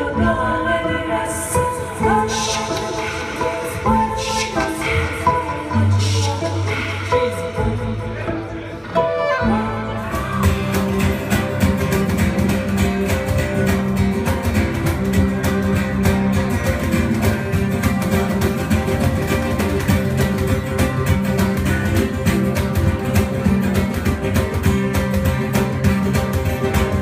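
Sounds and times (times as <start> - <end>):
band with strummed guitar: 0.0 - 27.0.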